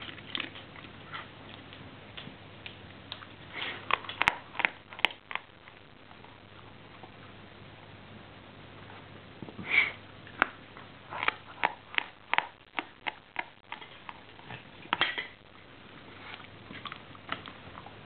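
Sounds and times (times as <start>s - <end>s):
dog chewing wet crunches: 0.0s - 7.2s, 10.3s - 18.0s.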